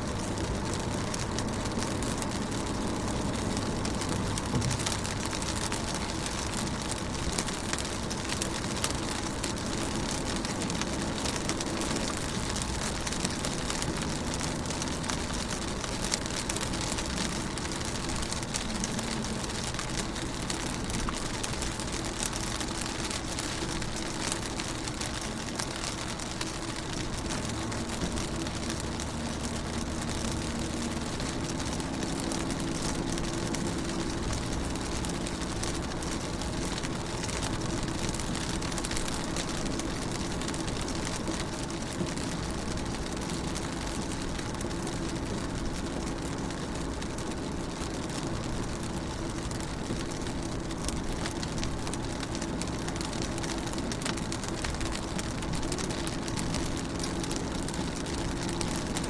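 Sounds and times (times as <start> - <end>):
rain on car windows: 0.0 - 59.0.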